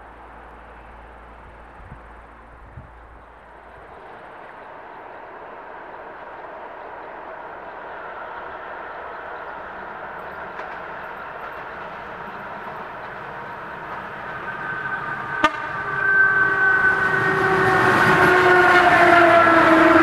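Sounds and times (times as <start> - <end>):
train rumble and rail noise: 0.0 - 20.0.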